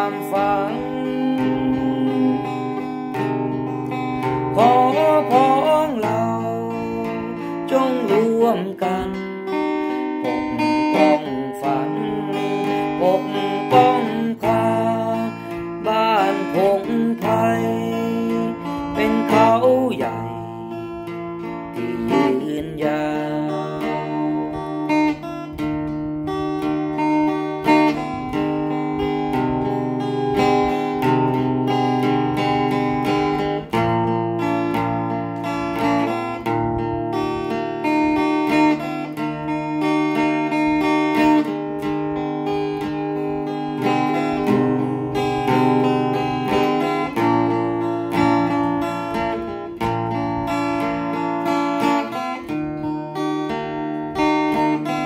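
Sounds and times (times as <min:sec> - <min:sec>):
acoustic guitar chords: 0:00.0 - 0:55.0.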